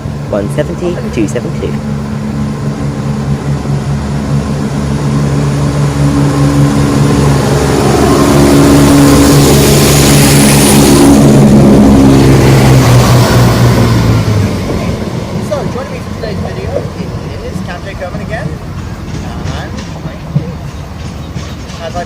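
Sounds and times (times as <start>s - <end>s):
diesel train engines under power: 0.0s - 22.0s
train rushing noise: 0.0s - 22.0s.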